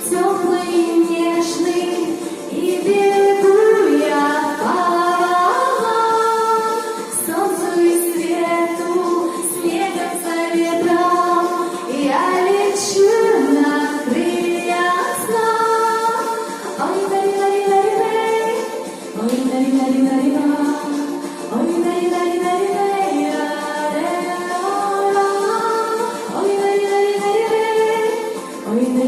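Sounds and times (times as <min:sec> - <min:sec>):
background music: 0:00.0 - 0:29.0
woman singing wordless melody: 0:00.0 - 0:29.0.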